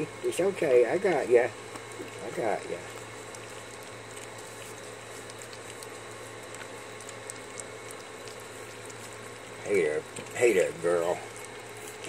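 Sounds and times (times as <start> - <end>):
puppies lapping and smacking: 0.0 - 12.0.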